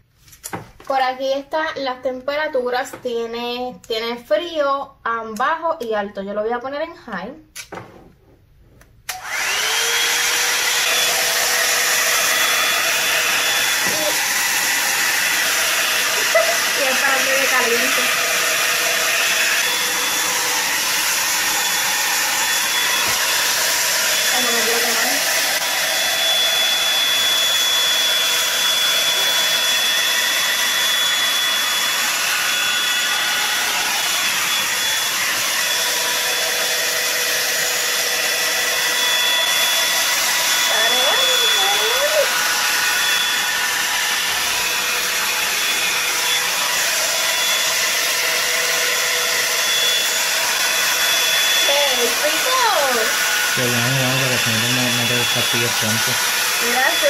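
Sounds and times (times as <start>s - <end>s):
hair dryer motor blowing air: 9.1s - 57.0s.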